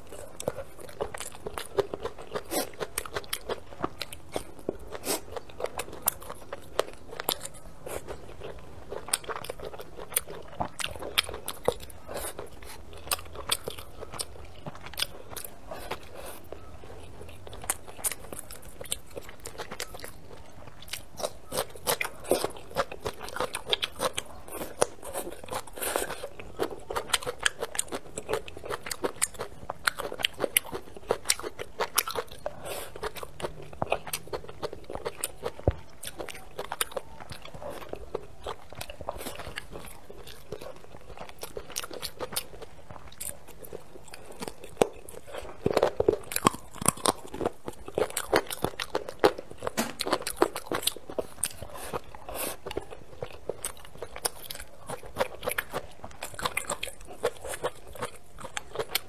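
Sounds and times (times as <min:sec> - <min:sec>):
person chewing with sharp crunches: 0:00.0 - 0:59.0.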